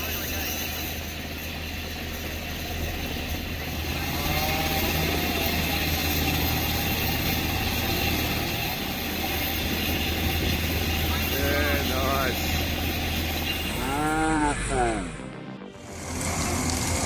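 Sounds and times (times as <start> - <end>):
machine engine running: 0.0 - 17.0.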